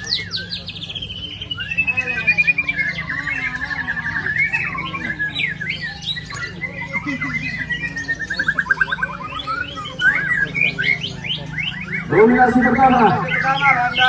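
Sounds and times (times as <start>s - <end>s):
birds singing trills: 0.0s - 14.0s.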